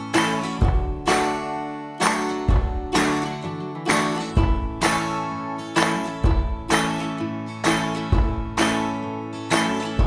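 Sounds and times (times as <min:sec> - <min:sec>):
acoustic guitar music with beat: 0:00.0 - 0:10.0.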